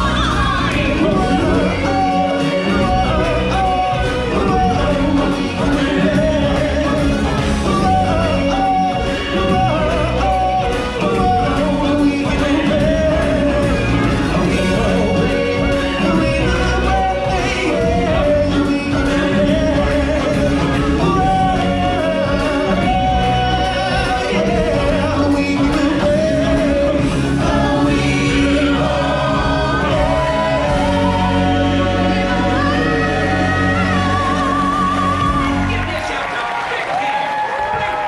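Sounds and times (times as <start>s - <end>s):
choir singing: 0.0s - 35.9s
backing track music: 0.0s - 38.0s.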